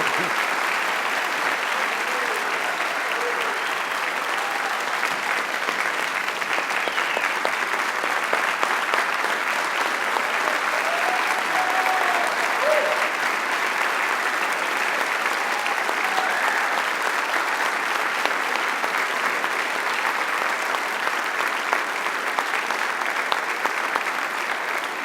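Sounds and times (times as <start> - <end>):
large audience applauding: 0.0 - 25.0.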